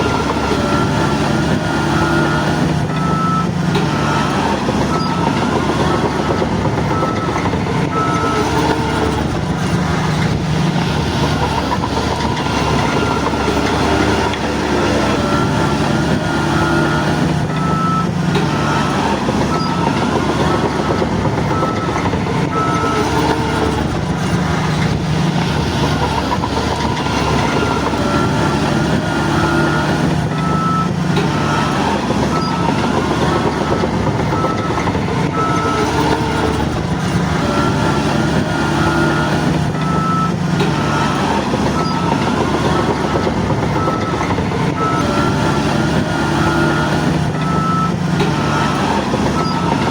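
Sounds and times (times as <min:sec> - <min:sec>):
bulldozer diesel engine: 0:00.0 - 0:49.9
reversing alarm beeping: 0:00.0 - 0:49.9.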